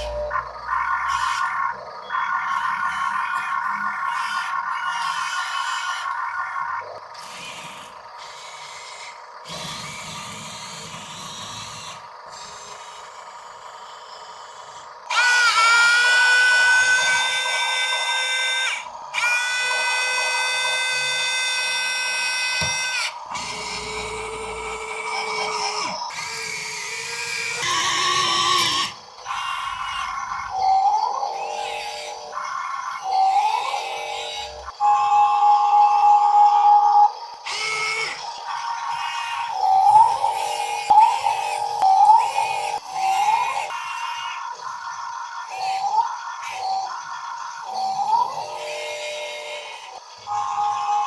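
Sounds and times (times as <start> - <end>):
small electric gear motors whining: 0.0 - 51.0.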